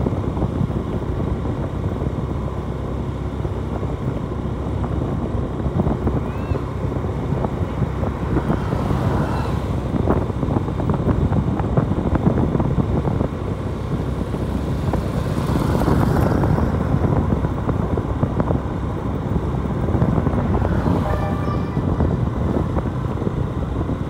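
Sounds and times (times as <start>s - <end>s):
motorcycle engine and road noise: 0.0s - 24.0s
wind on microphone: 0.0s - 24.0s.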